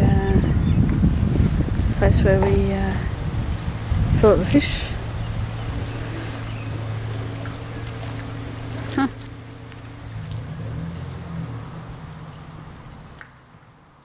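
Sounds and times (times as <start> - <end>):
low steady hum: 0.0 - 14.0
high-pitched insect buzz: 0.1 - 12.0.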